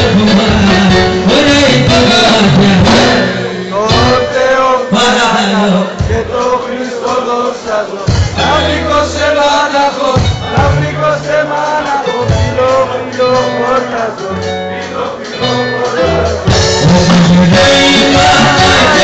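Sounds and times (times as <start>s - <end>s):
live folk band playing: 0.0s - 19.0s
person singing: 0.0s - 19.0s.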